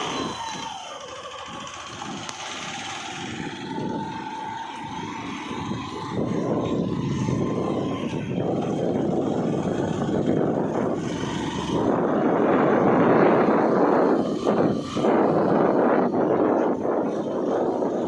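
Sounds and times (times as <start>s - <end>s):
moving vehicle rumbling: 0.0s - 18.0s.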